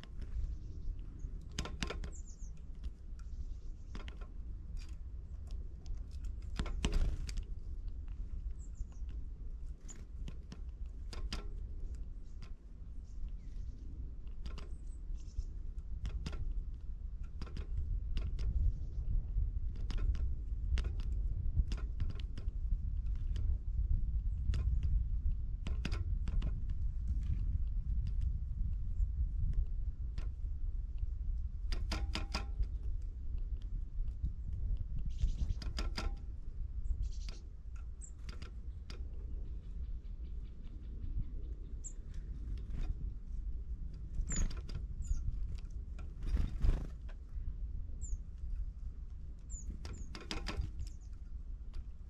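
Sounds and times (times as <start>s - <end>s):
steady low rumble: 0.0s - 31.7s, 32.5s - 52.0s.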